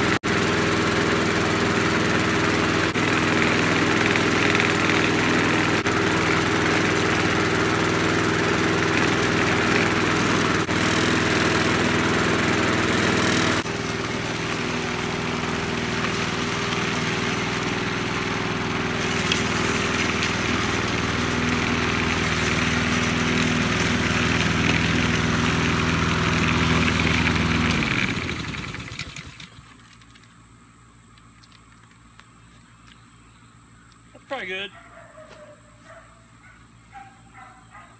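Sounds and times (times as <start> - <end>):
push mower engine running: 0.0 - 32.5, 33.6 - 37.9.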